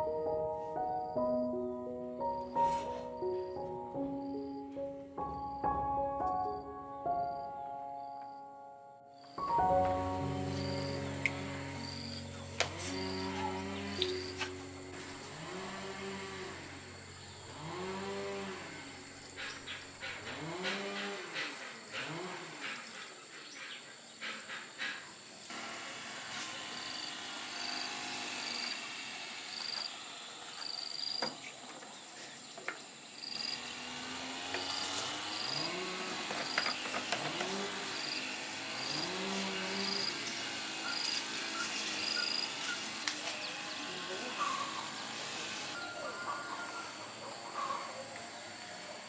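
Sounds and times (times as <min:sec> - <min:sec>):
rural background: 0:00.0 - 0:49.0.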